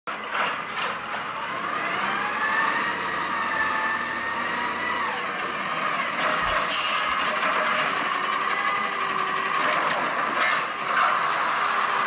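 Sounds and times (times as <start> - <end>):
garbage truck diesel engine: 0.1 - 12.0
truck whine: 0.1 - 12.0.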